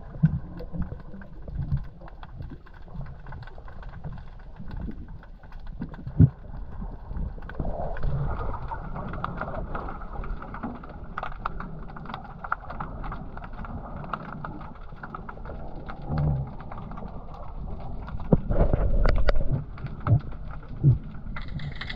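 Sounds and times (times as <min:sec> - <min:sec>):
muffled underwater moving water: 0:00.0 - 0:21.9
small crackling clicks: 0:00.0 - 0:21.9.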